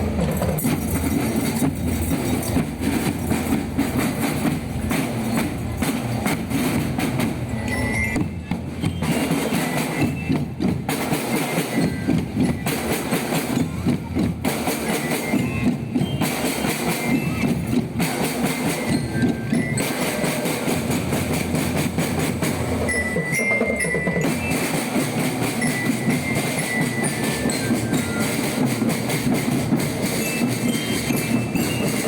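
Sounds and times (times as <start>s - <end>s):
loud music with fast percussion: 0.0s - 32.0s.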